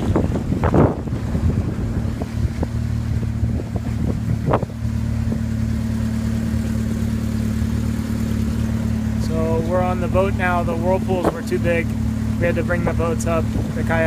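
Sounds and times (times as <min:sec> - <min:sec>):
engine knocks: 0:00.0 - 0:14.0
engine running steadily: 0:00.0 - 0:14.0.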